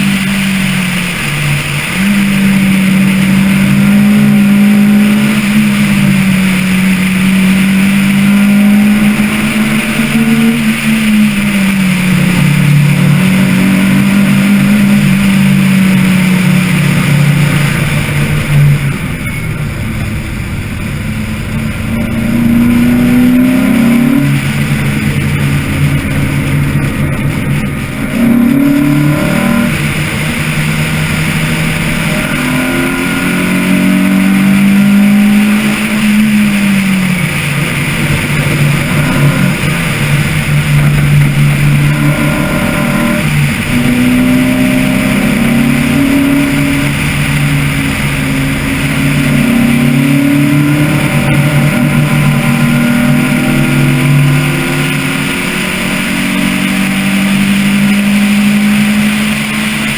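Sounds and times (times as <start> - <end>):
car engine revving: 0.0 - 59.9
wind and road noise: 0.0 - 59.9.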